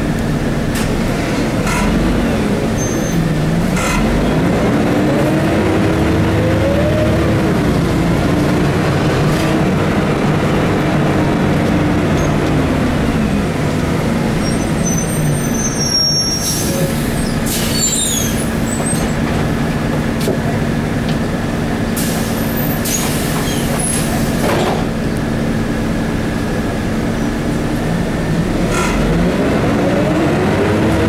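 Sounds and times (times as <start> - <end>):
bus engine: 0.0 - 31.0.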